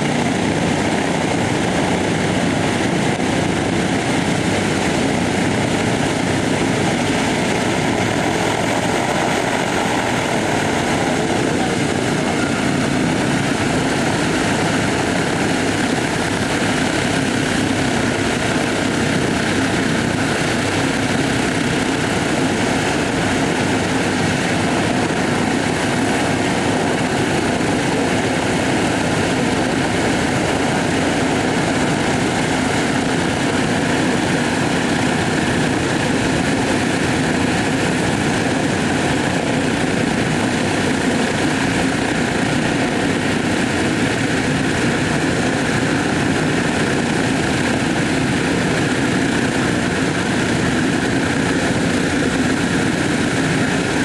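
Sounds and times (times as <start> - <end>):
propeller aircraft engines droning: 0.0 - 54.0.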